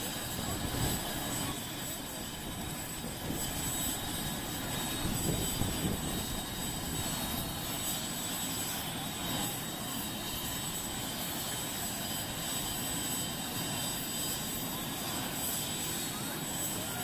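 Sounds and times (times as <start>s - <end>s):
helicopter rotor noise: 0.0s - 17.0s
helicopter turbine whine: 0.0s - 17.0s.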